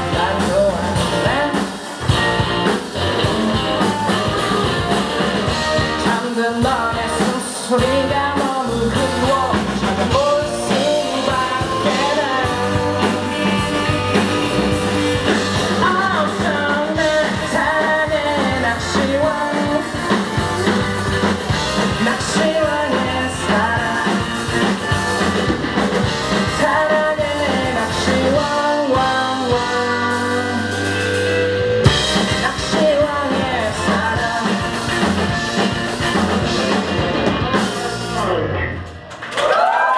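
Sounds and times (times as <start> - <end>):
man singing: 0.0 - 2.4, 5.4 - 20.6, 21.4 - 24.9, 26.0 - 31.2, 31.9 - 38.7
electric bass: 0.0 - 39.3
drum kit: 0.0 - 39.7
electric guitars: 0.0 - 39.9.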